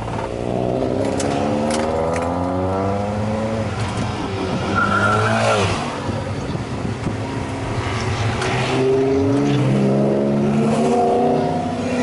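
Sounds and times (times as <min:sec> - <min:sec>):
car engine revving: 0:00.0 - 0:06.2, 0:07.0 - 0:12.0.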